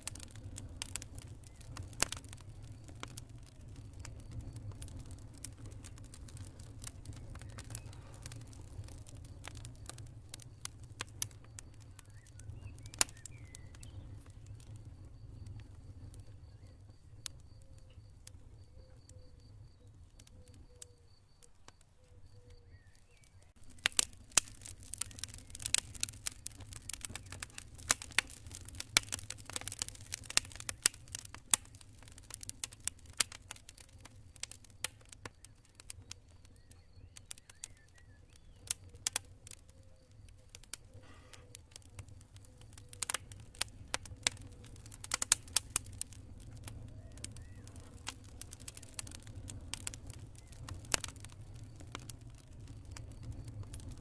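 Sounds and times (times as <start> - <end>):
campfire crackling and popping: 0.0 - 54.0
cricket chirping: 1.2 - 54.0.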